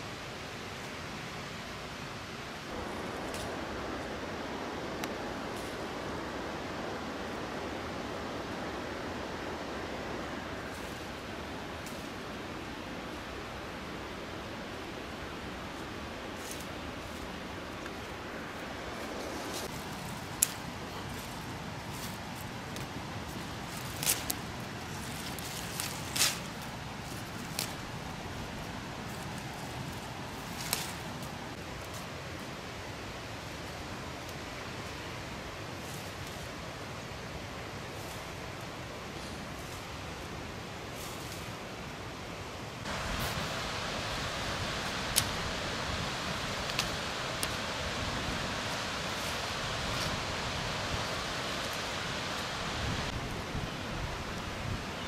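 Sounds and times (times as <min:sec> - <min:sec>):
rustling leaves: 0:00.0 - 0:55.0
steady outdoor hiss: 0:00.0 - 0:55.0.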